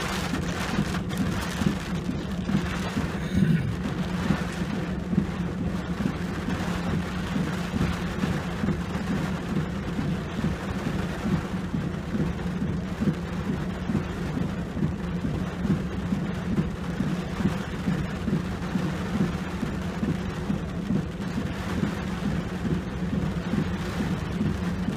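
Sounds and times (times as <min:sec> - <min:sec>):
rain on truck roof: 0:00.0 - 0:24.9
steady low hum: 0:00.0 - 0:24.9.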